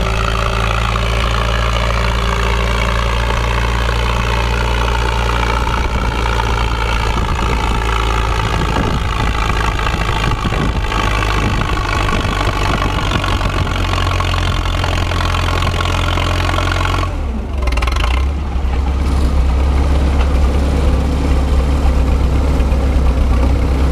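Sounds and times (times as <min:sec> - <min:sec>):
tractor engine running under load: 0:00.0 - 0:23.9.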